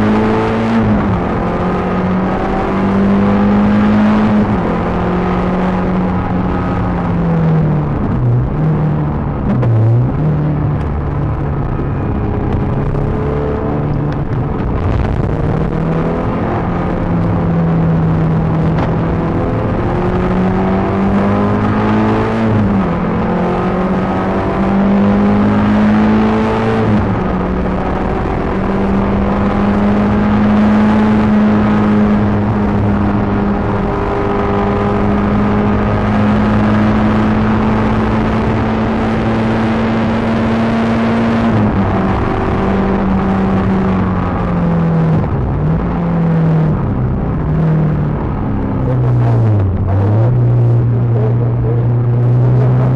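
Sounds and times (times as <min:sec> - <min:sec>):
car engine revving hard: 0:00.0 - 0:52.9.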